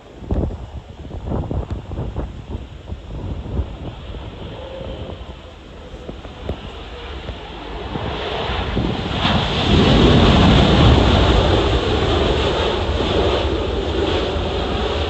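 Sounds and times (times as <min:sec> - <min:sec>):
jet airliner passing: 0:00.0 - 0:15.0
wind buffeting microphone: 0:00.0 - 0:15.0.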